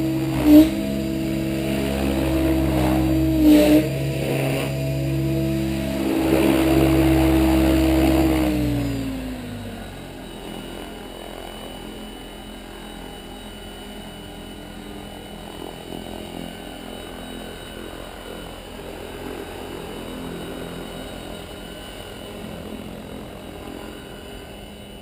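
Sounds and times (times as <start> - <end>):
rc helicopter rotor buzzing: 0.0 - 25.0
thin high whine: 0.0 - 25.0.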